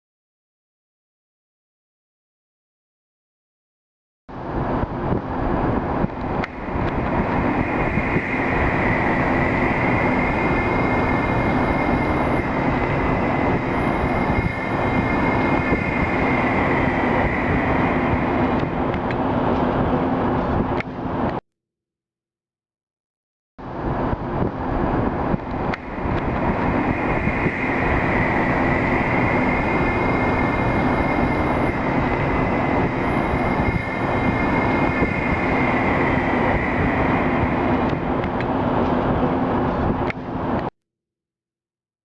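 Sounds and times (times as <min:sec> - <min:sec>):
high whine: 0:04.3 - 0:21.4, 0:23.6 - 0:40.7
loud rumbling drone: 0:04.3 - 0:21.4, 0:23.6 - 0:40.7.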